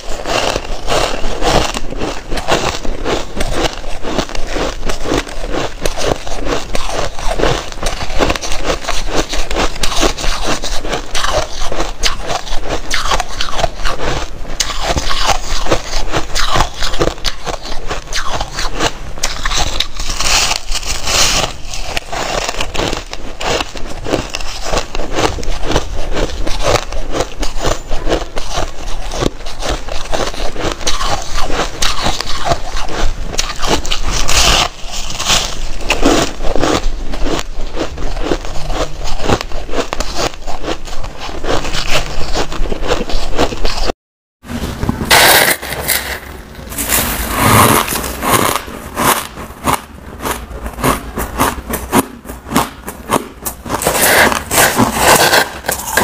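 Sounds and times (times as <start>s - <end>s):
ice crunching in mouth: 0.0s - 43.9s, 44.6s - 56.0s.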